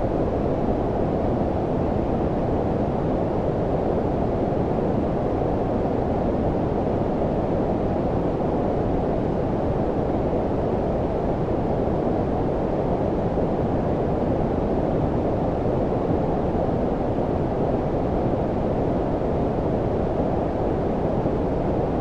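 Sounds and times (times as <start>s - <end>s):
low rumbling brown noise: 0.0s - 22.0s.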